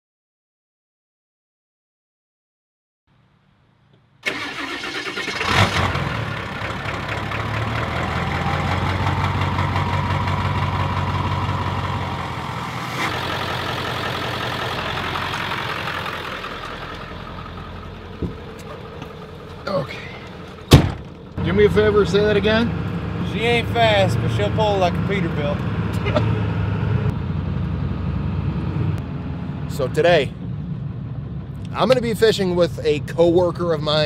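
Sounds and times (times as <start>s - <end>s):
truck engine starting and idling: 4.2s - 34.0s.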